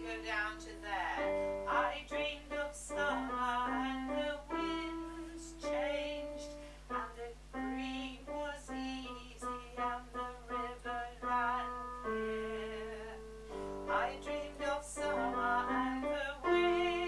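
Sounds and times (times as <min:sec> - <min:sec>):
piano accompaniment: 0:00.0 - 0:17.0
women singing choral song: 0:00.0 - 0:17.0.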